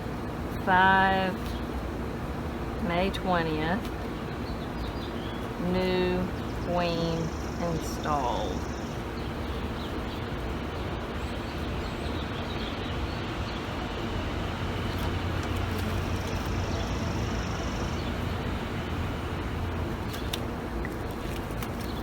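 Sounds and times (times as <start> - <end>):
outdoor noise: 0.0 - 22.0
steady low hum: 0.0 - 22.0.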